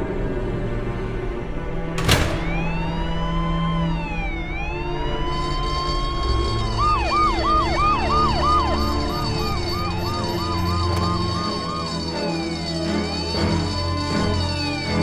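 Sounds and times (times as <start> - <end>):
police sirens wailing: 2.3 - 15.0
siren fast yelp: 2.5 - 15.0.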